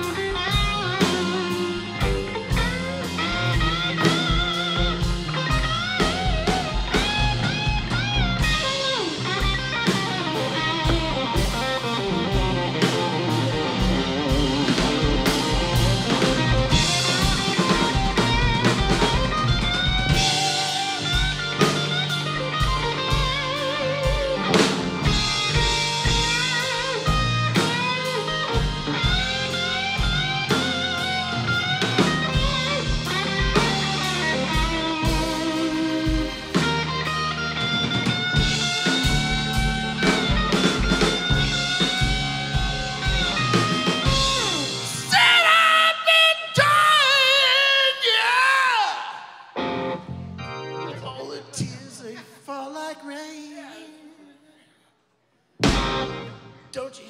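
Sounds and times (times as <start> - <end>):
electric guitar solo: 0.0 - 51.4
live blues-rock band: 0.0 - 52.1, 55.6 - 56.7.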